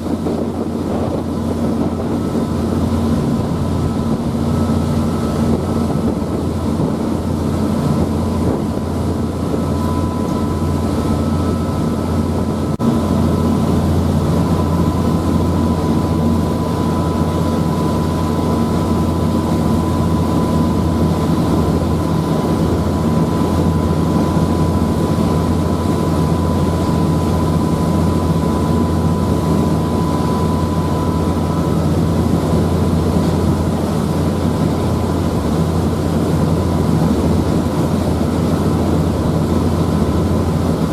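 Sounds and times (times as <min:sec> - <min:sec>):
ship engines droning: 0:00.0 - 0:40.9
thin steady whine: 0:00.0 - 0:40.9.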